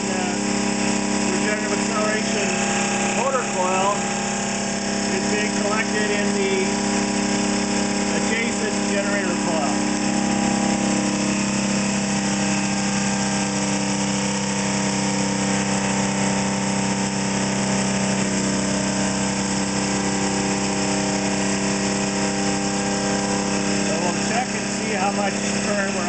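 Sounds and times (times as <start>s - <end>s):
electrical machine hum: 0.0s - 26.0s.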